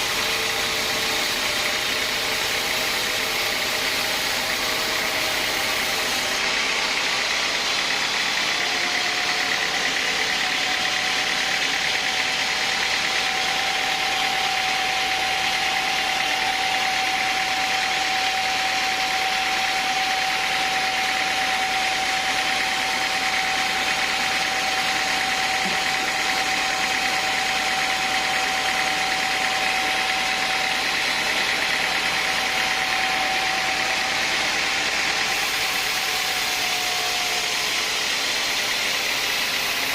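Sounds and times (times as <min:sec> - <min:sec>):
saw whine: 0:00.0 - 0:39.9
sawmill saw hissing: 0:00.0 - 0:39.9.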